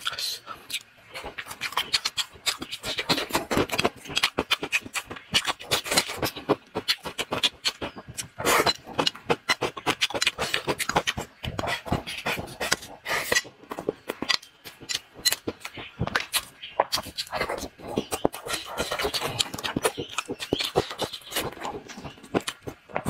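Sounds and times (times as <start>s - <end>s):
man chewing and lip smacking: 0.0s - 23.0s.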